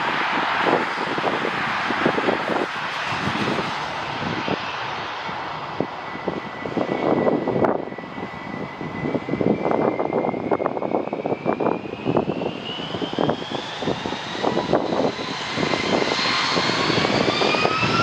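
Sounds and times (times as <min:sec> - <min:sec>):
high engine whine: 0:00.0 - 0:18.0
jet engines roaring: 0:00.0 - 0:18.0
wind buffeting microphone: 0:00.0 - 0:18.0.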